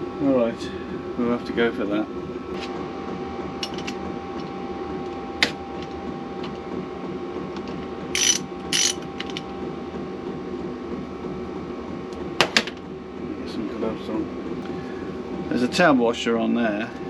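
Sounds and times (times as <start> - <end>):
steady workshop hum: 0.0 - 17.0.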